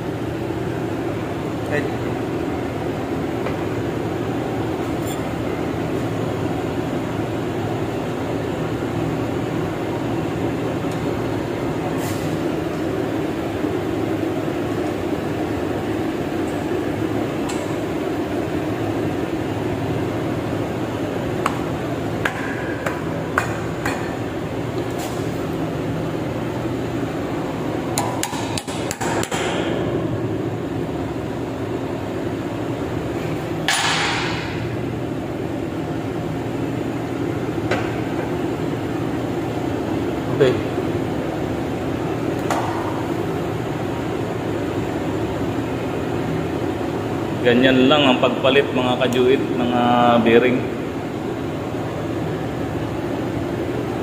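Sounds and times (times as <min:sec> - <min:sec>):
machinery hum: 0:00.0 - 0:54.0.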